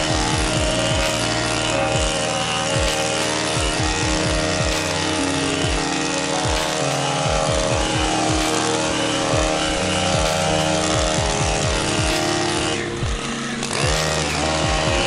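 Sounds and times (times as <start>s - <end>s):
string trimmer cutting grass: 0.0s - 15.0s.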